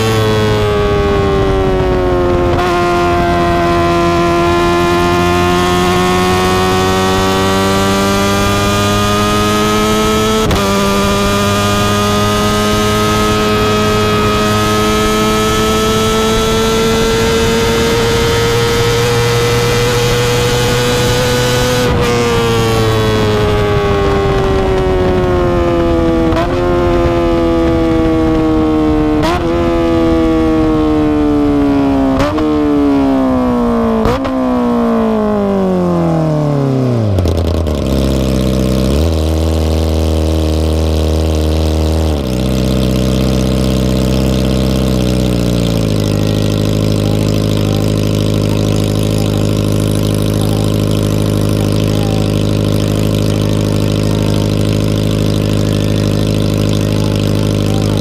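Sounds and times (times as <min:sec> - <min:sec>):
engine revving blips on downshifts: 0:00.0 - 0:58.0
motorcycle engine slowing and idling: 0:00.0 - 0:58.0.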